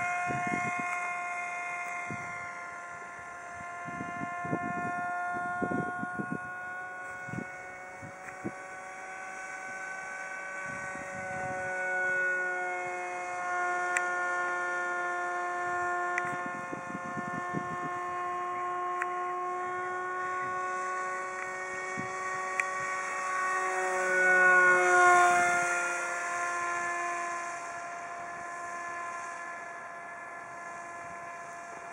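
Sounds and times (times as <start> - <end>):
small electric motor whining: 0.0 - 31.9.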